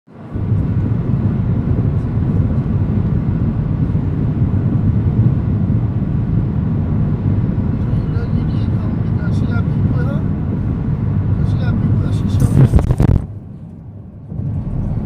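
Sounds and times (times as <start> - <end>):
strong wind buffeting microphone: 0.1 - 15.0.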